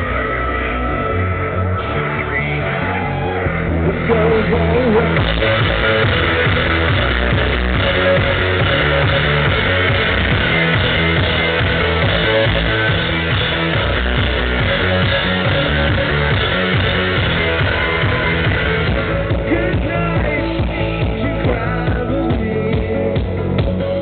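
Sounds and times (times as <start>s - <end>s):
electric guitar: 0.0s - 24.0s
live electronic rock band: 0.0s - 24.0s
synthesizer: 0.0s - 24.0s
steady drum beat: 4.0s - 24.0s.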